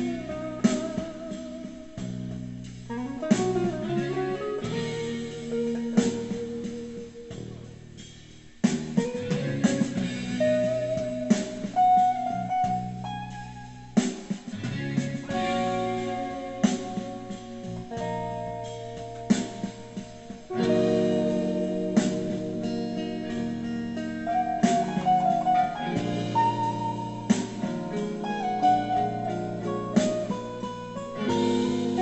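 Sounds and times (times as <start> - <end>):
electric guitar lead: 0.0 - 8.0, 8.8 - 32.0
backing track with drums: 0.0 - 32.0.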